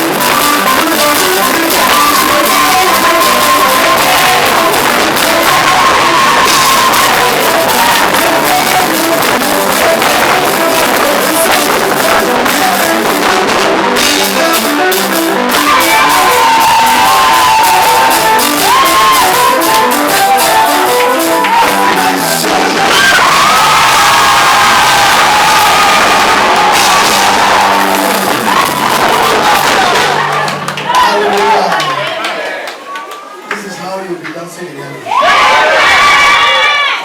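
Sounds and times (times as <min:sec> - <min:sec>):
band with steady beat: 0:00.0 - 0:31.1
people singing and shouting: 0:00.0 - 0:32.1.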